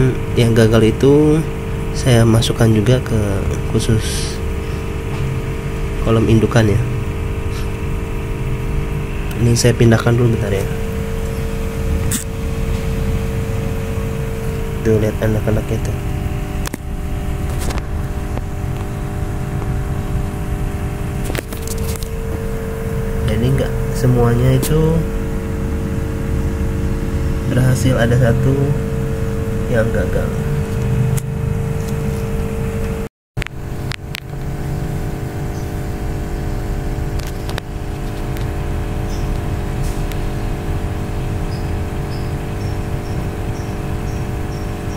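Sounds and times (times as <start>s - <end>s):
low machine hum and rumble: 0.0s - 44.9s.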